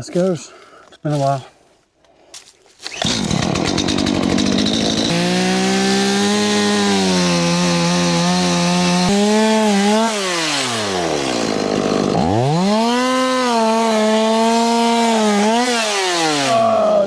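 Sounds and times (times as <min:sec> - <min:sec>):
chainsaw revving: 0:02.8 - 0:17.0.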